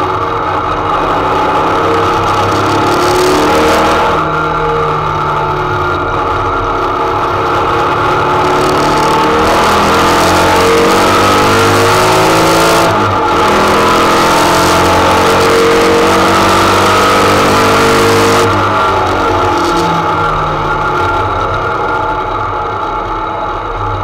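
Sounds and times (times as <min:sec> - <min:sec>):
race engine pulling hard: 0:00.0 - 0:24.0.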